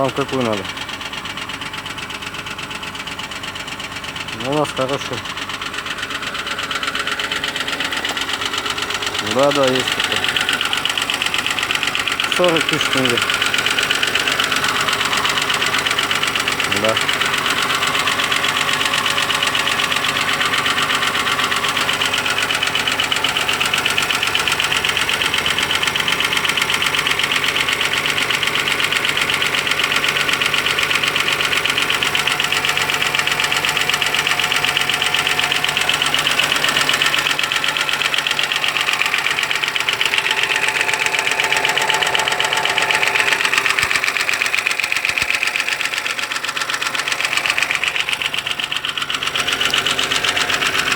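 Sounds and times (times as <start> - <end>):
car engine running with fast knock: 0.0 - 50.9.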